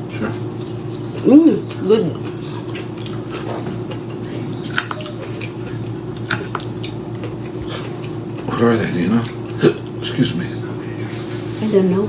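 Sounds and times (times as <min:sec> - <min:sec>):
wet chewing: 0:00.2 - 0:10.0.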